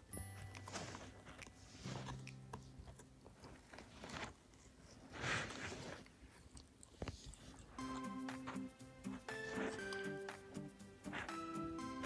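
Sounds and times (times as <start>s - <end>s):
puppy chewing carrot crunching: 0.1s - 5.0s, 5.9s - 11.4s.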